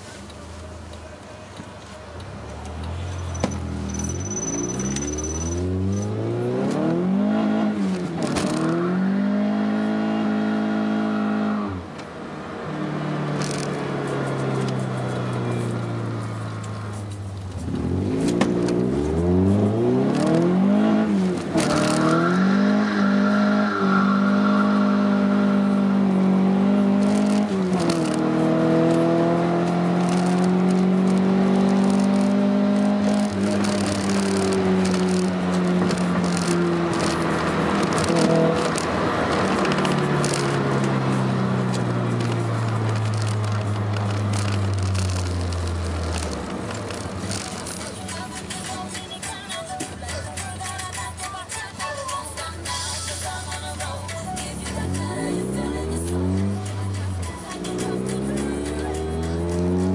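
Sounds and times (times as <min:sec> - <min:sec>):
car engine revving: 0:02.5 - 0:48.0, 0:54.1 - 0:59.9.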